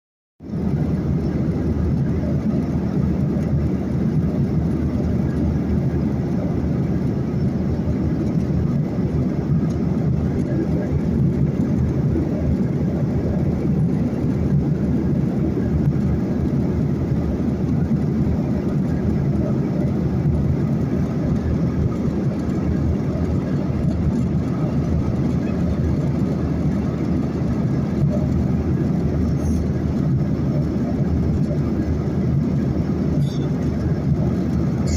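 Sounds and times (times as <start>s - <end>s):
airliner cabin rumble: 0.4s - 34.9s.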